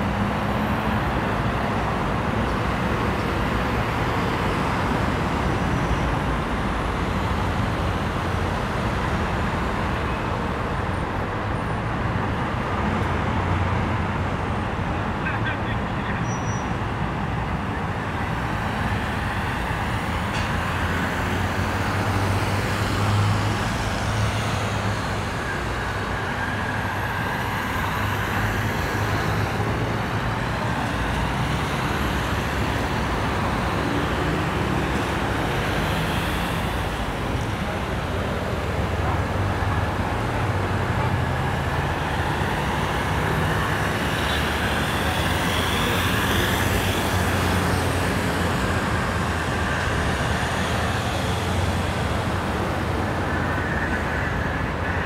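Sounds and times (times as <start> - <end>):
city traffic road noise: 0.0 - 55.0.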